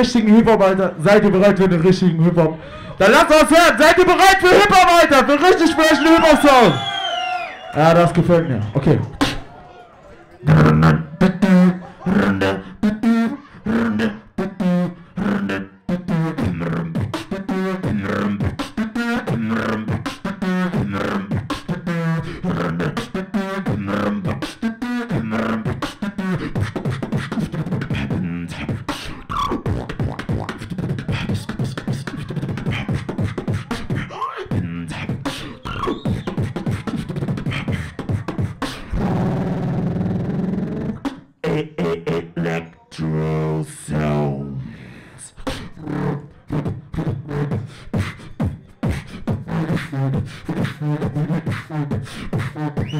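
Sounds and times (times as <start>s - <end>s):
person beatboxing: 0.0s - 6.8s, 7.7s - 9.5s, 10.4s - 52.9s.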